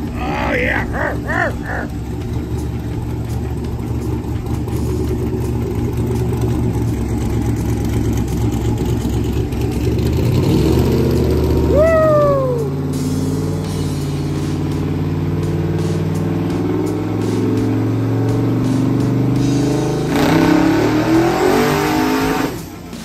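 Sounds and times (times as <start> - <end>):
engine running on dyno: 1.2 - 23.0.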